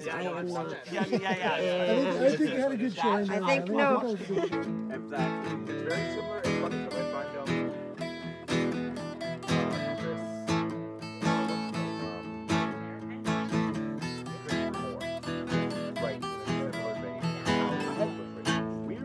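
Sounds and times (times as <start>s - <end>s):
acoustic guitars strumming: 0.0s - 19.0s.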